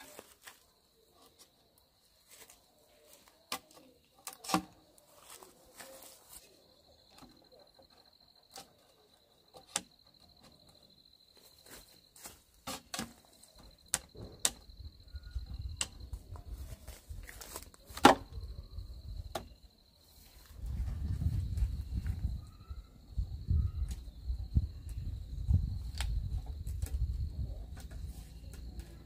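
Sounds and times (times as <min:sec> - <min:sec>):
high insect trill: 0:00.0 - 0:29.0.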